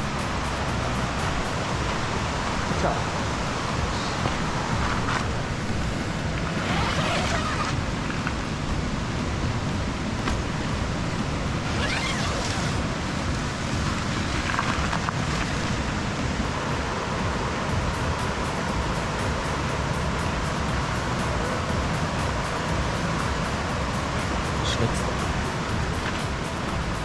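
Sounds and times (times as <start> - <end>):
stream rushing: 0.0 - 27.0.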